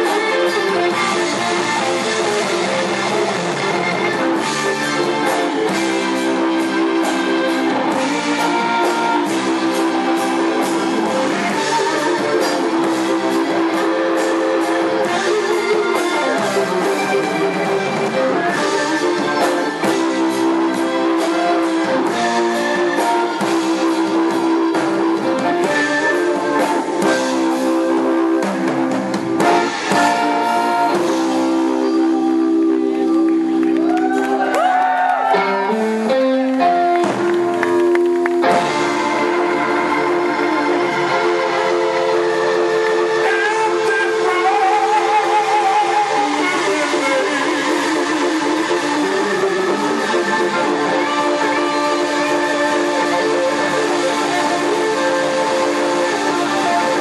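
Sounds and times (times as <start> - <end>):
drum kit: 0.0 - 57.0
electric guitar bending lead notes: 0.0 - 57.0.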